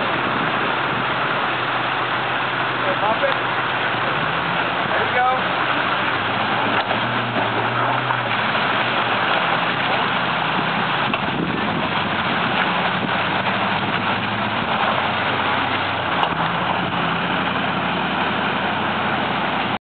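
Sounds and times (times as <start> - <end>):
truck engine at low revs: 0.0 - 19.8.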